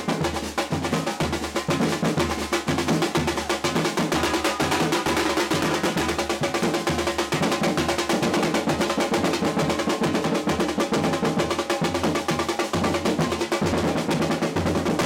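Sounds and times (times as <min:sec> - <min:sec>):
percussion drum line: 0:00.0 - 0:15.0.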